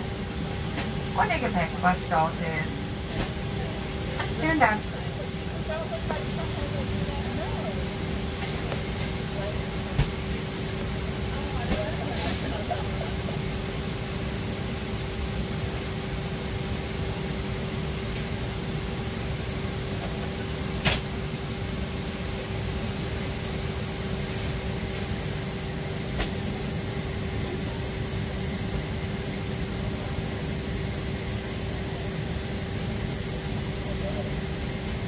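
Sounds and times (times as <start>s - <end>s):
cabin air-conditioning hum: 0.0s - 35.0s.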